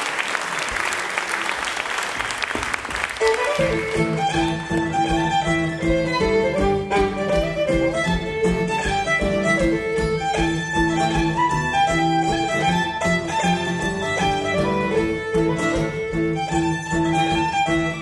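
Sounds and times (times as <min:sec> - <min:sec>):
fiddle melody: 0:03.0 - 0:18.0
held cello notes: 0:03.2 - 0:18.0
strummed acoustic guitar: 0:03.5 - 0:18.0.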